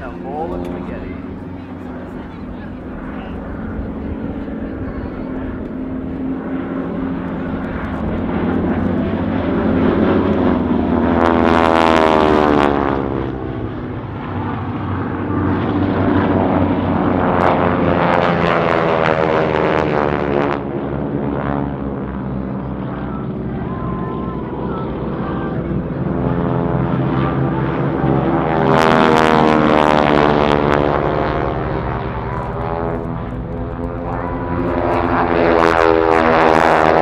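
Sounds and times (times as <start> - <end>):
propeller planes droning: 0.0 - 37.0.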